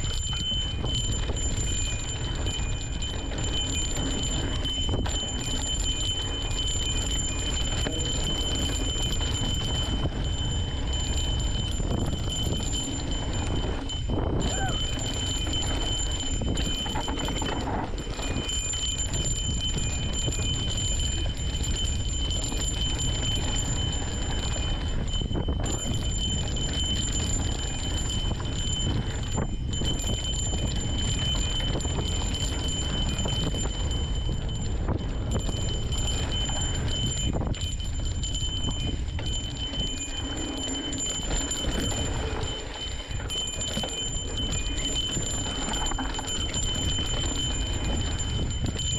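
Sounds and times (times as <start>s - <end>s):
bike tyres rattling over dirt trail: 0.0s - 48.9s
wind buffeting microphone: 0.0s - 48.9s.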